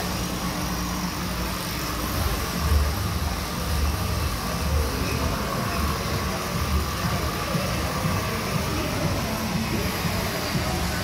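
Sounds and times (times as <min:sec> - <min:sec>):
rumbling hiss: 0:00.0 - 0:11.0.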